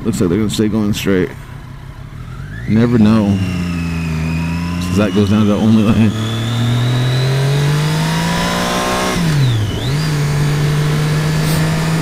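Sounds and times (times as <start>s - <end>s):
wind and road rush: 0.0s - 12.0s
motorcycle engine revving: 1.4s - 12.0s.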